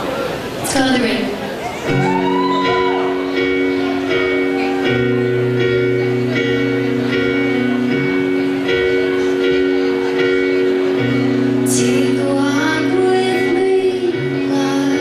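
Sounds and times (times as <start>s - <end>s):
live band playing slow song: 1.6s - 15.0s.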